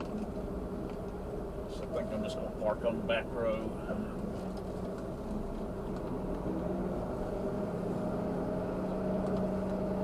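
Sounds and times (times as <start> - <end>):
diesel truck engine droning: 0.0 - 10.0.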